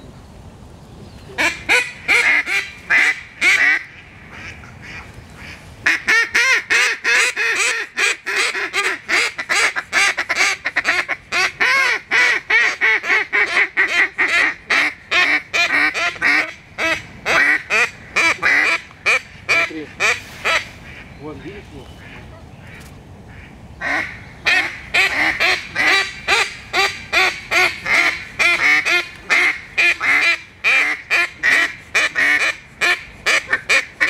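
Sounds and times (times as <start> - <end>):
duck call quacks: 1.4 - 21.1, 22.0 - 34.0.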